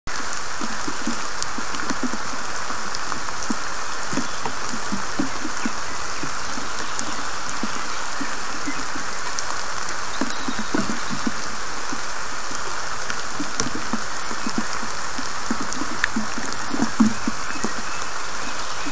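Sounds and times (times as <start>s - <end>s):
rain hiss: 0.1s - 18.9s.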